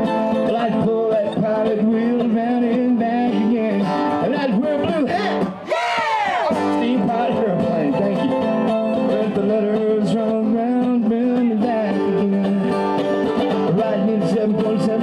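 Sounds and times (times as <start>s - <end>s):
mandolin: 0.0s - 5.6s, 6.5s - 15.0s
man singing: 0.0s - 15.0s
strummed acoustic guitar: 0.0s - 15.0s.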